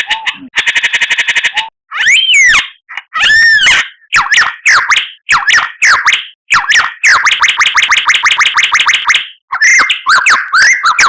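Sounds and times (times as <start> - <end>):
bird singing loud clear whistles: 2.0 - 11.0.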